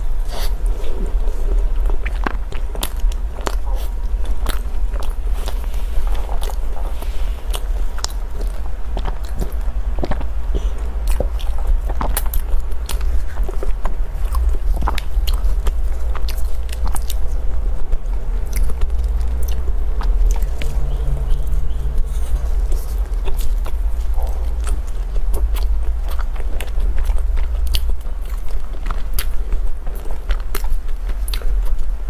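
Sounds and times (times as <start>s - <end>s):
chewing crunchy food: 0.0s - 32.0s
steady low hum: 0.0s - 32.0s.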